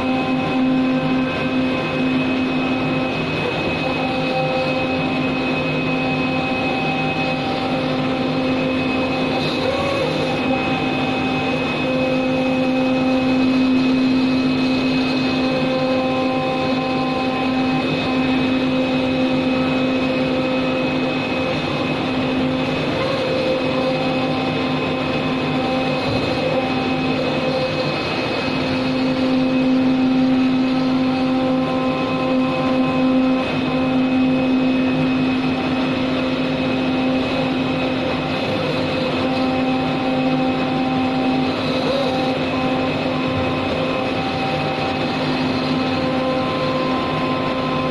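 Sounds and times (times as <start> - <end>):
cutting machine mechanical hum: 0.0 - 47.9.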